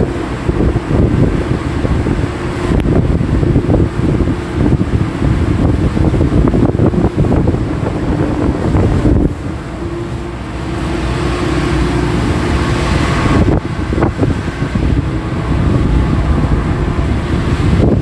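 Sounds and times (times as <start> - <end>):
boat engine machinery running: 0.0 - 18.0
wind on microphone: 0.0 - 18.0.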